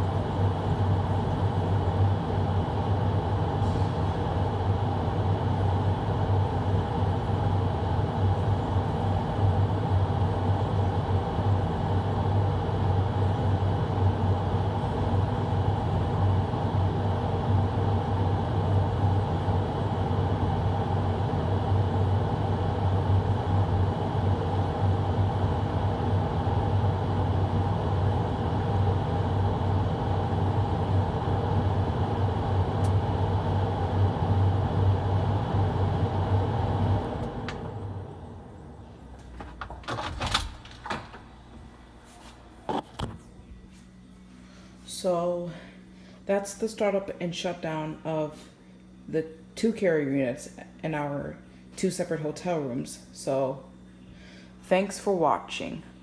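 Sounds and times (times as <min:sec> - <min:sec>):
air conditioner blower running: 0:00.0 - 0:56.0.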